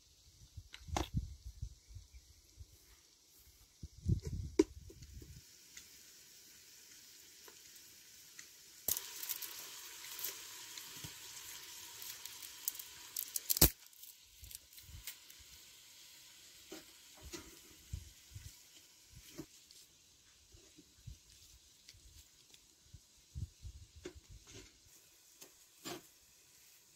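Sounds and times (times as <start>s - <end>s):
onions sizzling in a pot: 2.1s - 26.9s.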